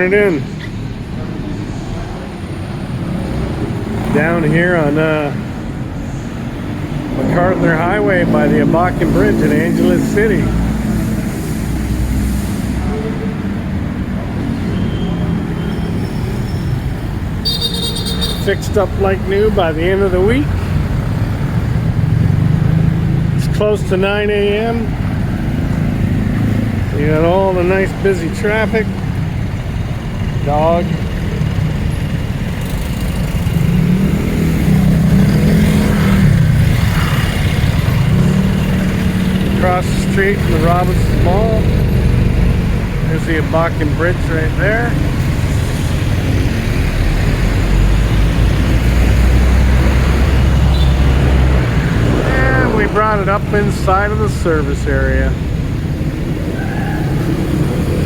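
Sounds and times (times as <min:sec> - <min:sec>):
highway traffic rumble: 0:00.0 - 0:58.0
vehicle engines running: 0:00.0 - 0:58.0.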